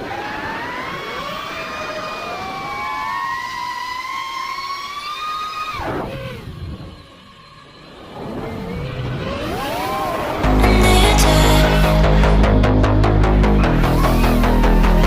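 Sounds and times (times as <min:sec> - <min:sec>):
quadcopter motors whining: 0:00.0 - 0:12.2, 0:13.6 - 0:15.0.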